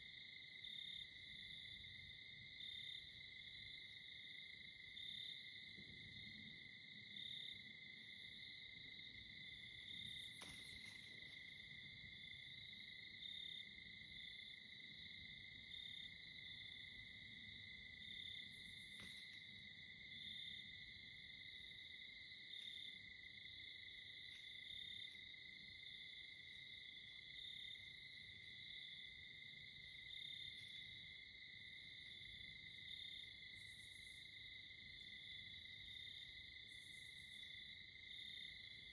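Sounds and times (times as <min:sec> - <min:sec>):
crickets trilling: 0:04.7 - 0:38.9.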